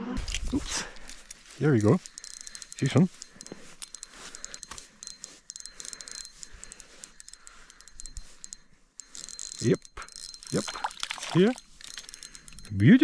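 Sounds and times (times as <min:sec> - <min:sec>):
fishing reel clicking: 0:00.3 - 0:13.0.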